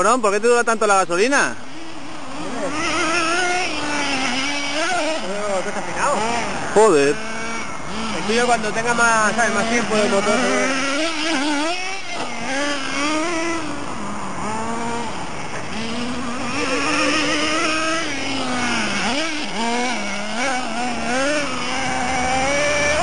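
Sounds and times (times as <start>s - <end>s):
small nitro engine revving: 0.0s - 23.0s.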